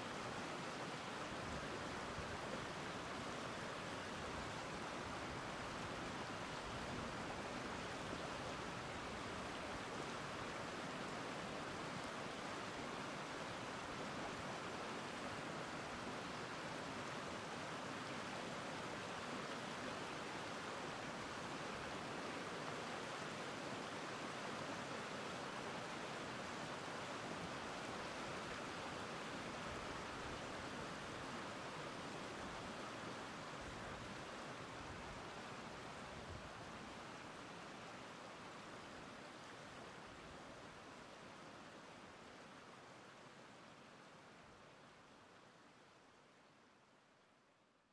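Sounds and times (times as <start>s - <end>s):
river running over rocks: 0.0s - 47.0s.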